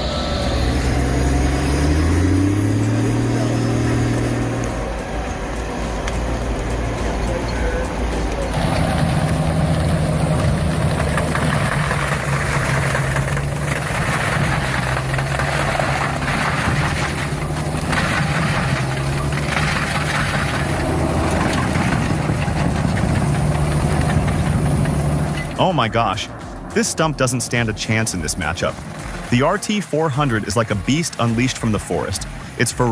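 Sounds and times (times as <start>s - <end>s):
diesel engine running: 0.0s - 32.9s
rough working machine noise: 0.0s - 32.9s.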